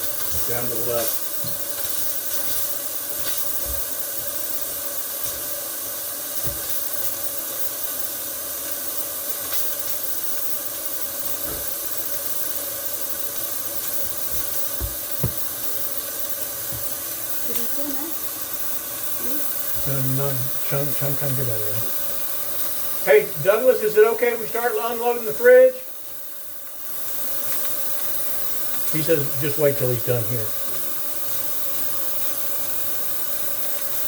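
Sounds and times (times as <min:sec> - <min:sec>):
steam cleaner hissing: 0:00.0 - 0:34.0.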